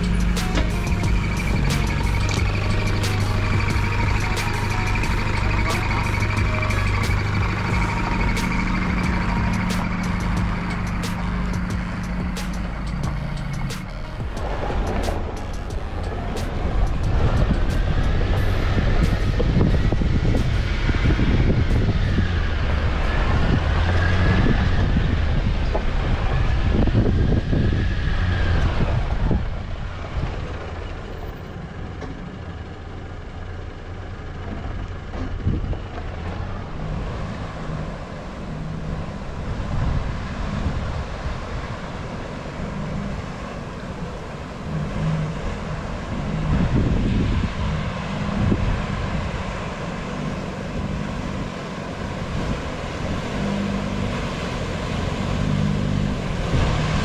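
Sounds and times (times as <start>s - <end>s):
vehicle engine and tyres on dirt: 0.0s - 57.0s.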